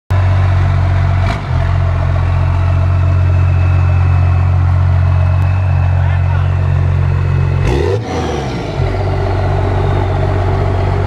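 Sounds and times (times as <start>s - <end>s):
diesel truck engine idling: 0.1s - 11.0s.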